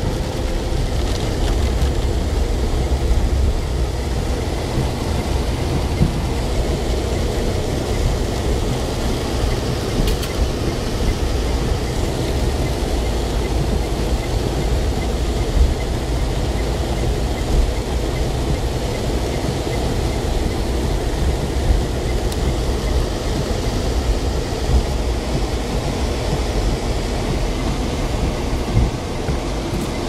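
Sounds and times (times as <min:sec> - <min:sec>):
car driving on flooded road: 0:00.0 - 0:30.0.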